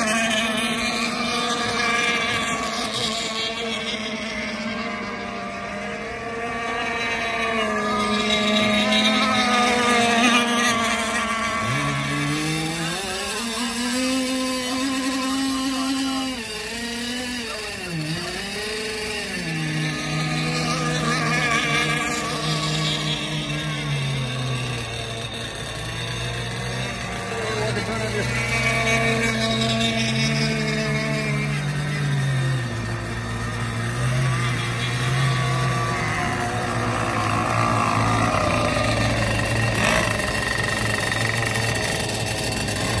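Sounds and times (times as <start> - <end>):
model boat engines revving high: 0.0 - 43.0.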